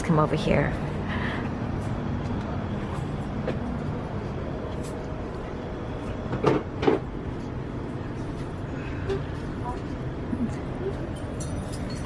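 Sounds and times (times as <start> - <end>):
low city background hum: 0.0 - 12.0.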